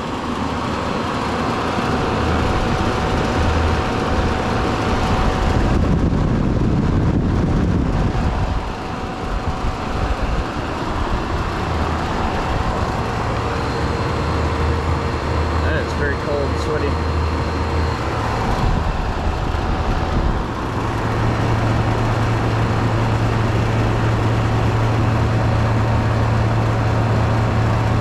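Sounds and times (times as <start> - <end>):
compressor hum: 0.0 - 28.0
condenser fan air rush: 0.0 - 28.0
faint steady whine: 0.0 - 28.0.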